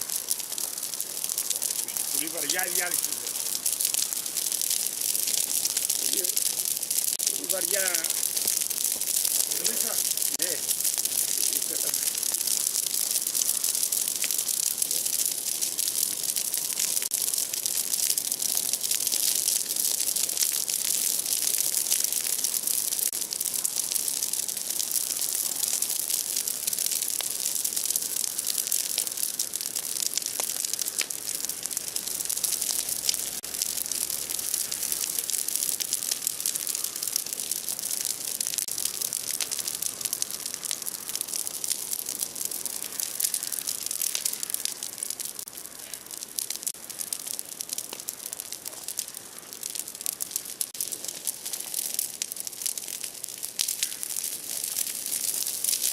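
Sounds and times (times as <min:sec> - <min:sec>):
bonfire crackling: 0:00.0 - 0:55.9
fire hissing: 0:00.0 - 0:55.9.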